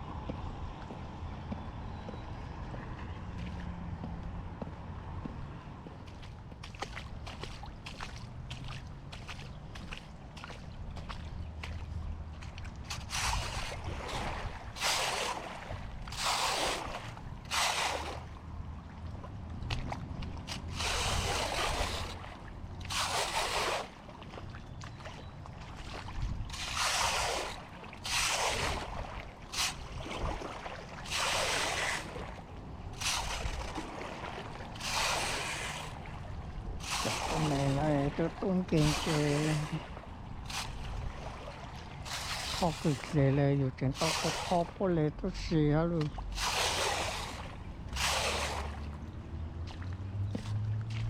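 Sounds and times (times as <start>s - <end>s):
water splashing: 3.3s - 51.0s.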